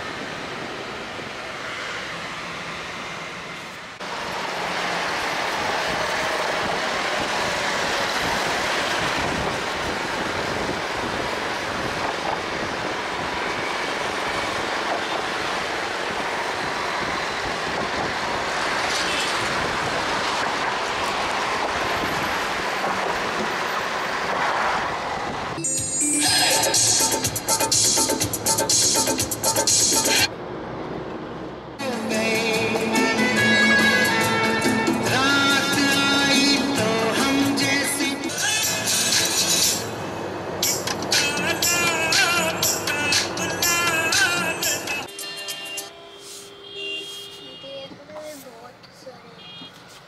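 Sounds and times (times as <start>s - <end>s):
moving vehicle rumbling: 0.0s - 25.6s, 26.2s - 45.1s.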